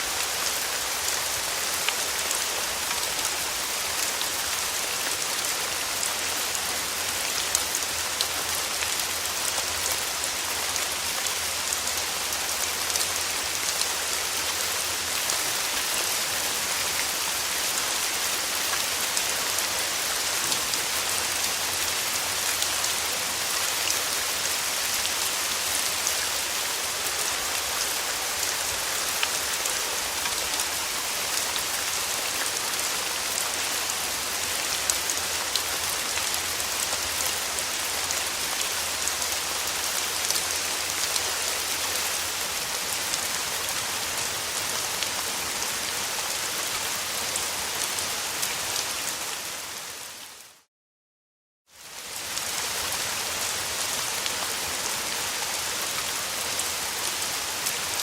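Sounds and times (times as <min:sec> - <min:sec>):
steady rain falling: 0:00.0 - 0:50.7, 0:51.7 - 0:58.0.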